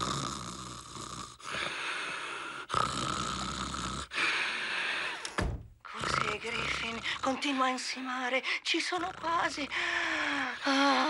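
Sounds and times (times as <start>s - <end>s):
boy snoring: 0.0s - 5.3s, 5.9s - 7.6s, 8.7s - 11.0s.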